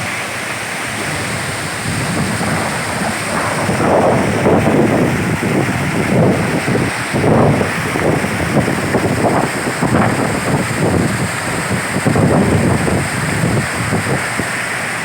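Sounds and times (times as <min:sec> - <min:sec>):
waterfall rushing: 0:00.0 - 0:15.0
wind buffeting microphone: 0:00.7 - 0:15.0.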